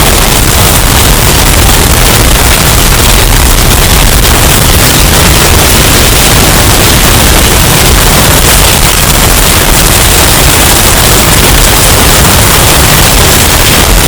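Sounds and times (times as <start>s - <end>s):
distorted hurricane wind: 0.0s - 14.0s.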